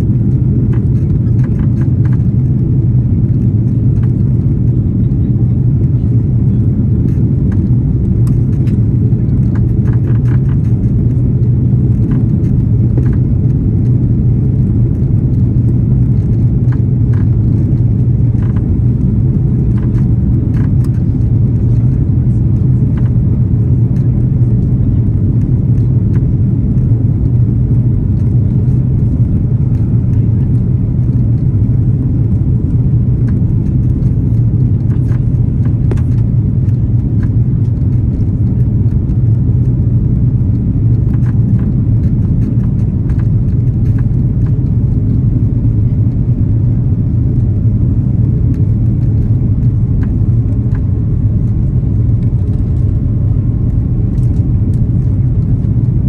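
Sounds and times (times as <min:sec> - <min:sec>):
airliner engines droning in cabin: 0:00.0 - 0:56.0.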